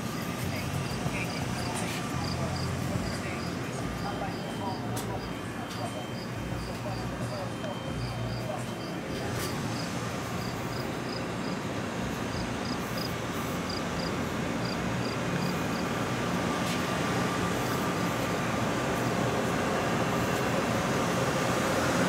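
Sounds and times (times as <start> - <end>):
train equipment hum: 0.0 - 22.0.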